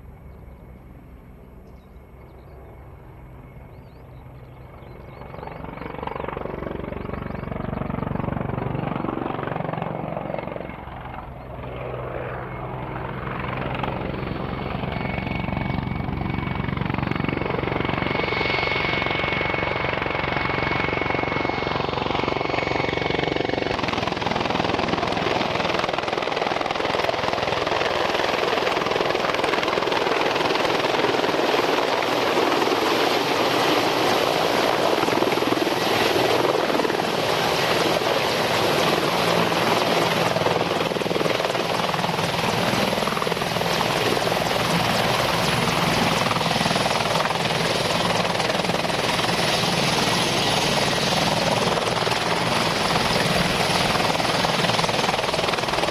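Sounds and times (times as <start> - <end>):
helicopter rotor and engines: 0.0 - 55.9.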